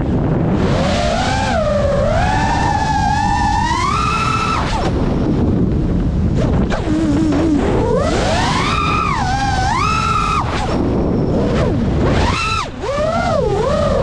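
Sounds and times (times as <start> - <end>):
quadcopter motors whining: 0.4 - 5.4, 6.4 - 14.0.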